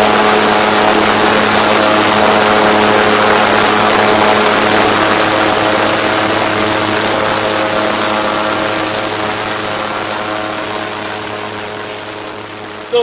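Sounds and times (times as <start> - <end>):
airboat engine and propeller: 0.0 - 13.0.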